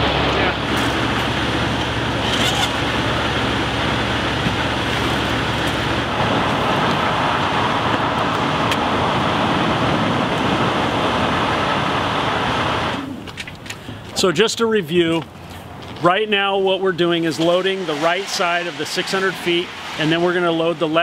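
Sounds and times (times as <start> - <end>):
fire engine running: 0.0 - 21.0.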